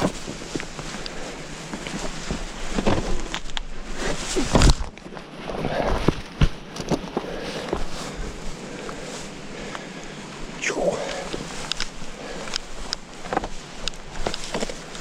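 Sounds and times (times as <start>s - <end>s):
footsteps over rough ground: 0.0s - 9.8s, 10.7s - 15.0s.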